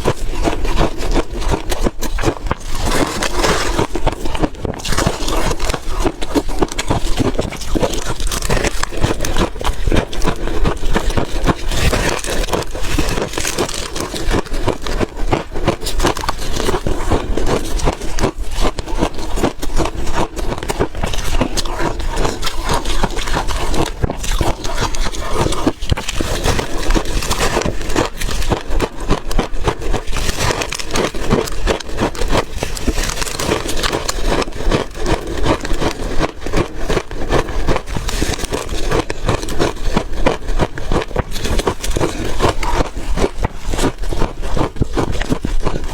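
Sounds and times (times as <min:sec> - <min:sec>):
ice being chewed and crunched: 0:00.0 - 0:45.9.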